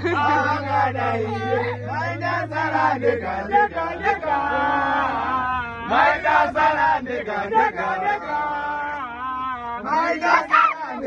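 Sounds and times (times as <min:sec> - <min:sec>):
men chanting and singing: 0:00.0 - 0:11.0.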